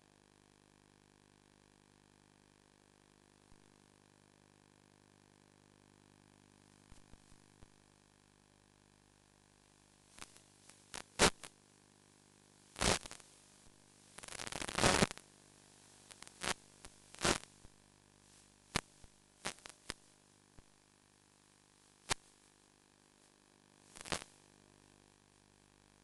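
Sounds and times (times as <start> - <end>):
crackling static: 0.0 - 26.0
faint steady hum: 0.0 - 26.0.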